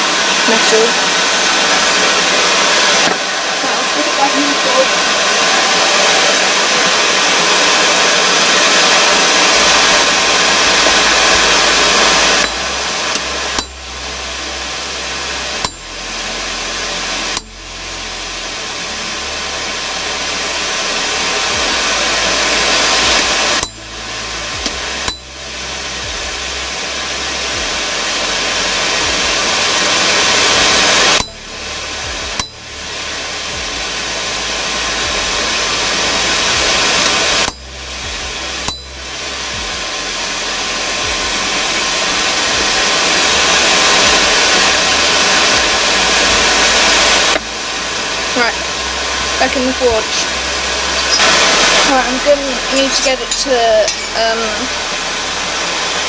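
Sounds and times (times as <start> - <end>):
forge air blast rushing: 0.0 - 56.0.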